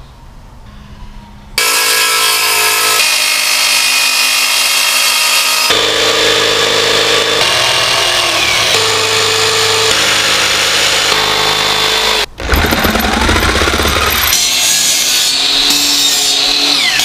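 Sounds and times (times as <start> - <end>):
jigsaw cutting plywood: 1.6 - 17.0
miter saw running: 1.6 - 17.0.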